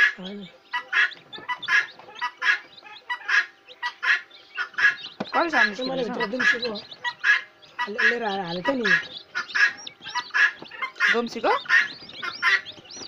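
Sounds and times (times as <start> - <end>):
lower wavering poultry call: 0.0 - 12.7.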